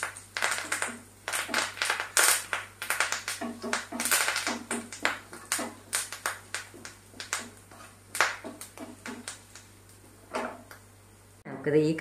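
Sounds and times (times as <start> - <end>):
spices crackling in hot oil: 0.0 - 11.4.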